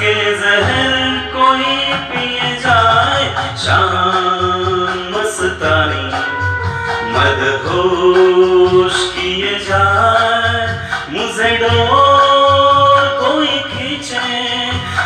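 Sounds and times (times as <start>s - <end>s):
backing track with pulsing bass: 0.0s - 15.0s
man singing into microphone: 0.0s - 15.0s.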